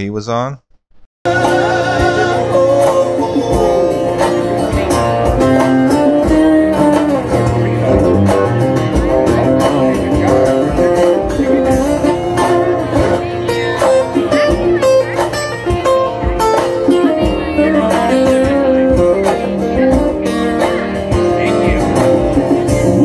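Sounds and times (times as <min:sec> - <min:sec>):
acoustic guitar: 0:01.3 - 0:23.0.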